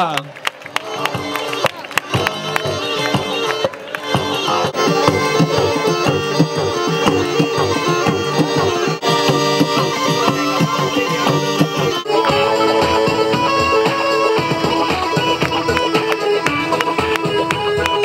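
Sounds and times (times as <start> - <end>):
lively instrumental music: 0.7 - 18.0.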